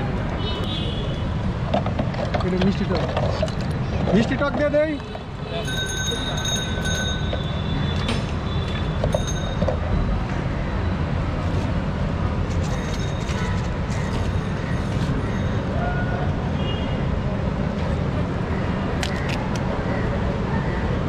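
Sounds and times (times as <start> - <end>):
traffic low rumble: 0.0 - 21.0.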